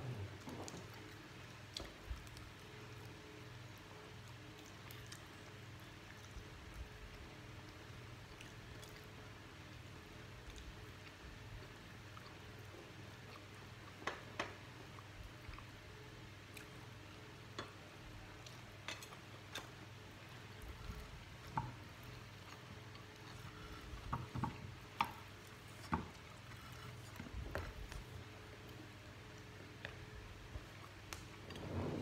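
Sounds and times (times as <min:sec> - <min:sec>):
soft chewing: 0:00.0 - 0:31.9
steady low hum: 0:00.0 - 0:32.0.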